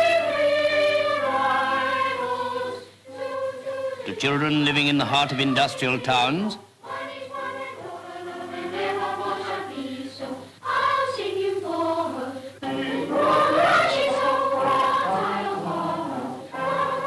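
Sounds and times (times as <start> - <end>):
choir singing slow melody: 0.0 - 17.0.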